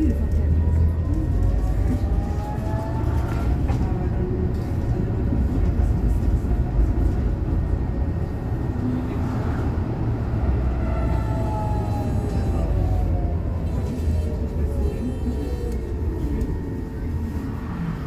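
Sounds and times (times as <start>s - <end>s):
tram rumbling on rails: 0.0s - 18.0s.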